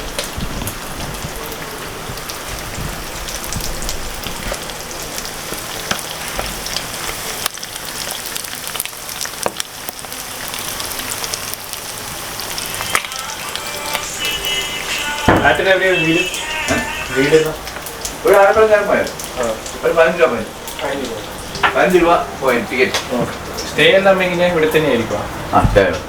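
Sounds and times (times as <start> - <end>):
fish frying in hot oil: 0.0 - 26.0.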